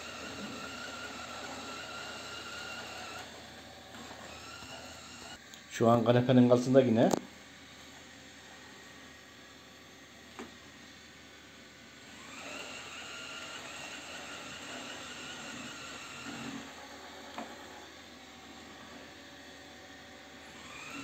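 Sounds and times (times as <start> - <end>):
robot vacuum whirring: 0.0 - 5.4, 7.4 - 21.0.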